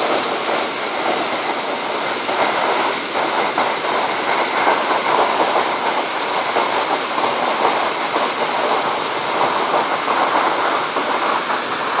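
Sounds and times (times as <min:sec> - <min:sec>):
water rushing over boulders: 0:00.0 - 0:12.0.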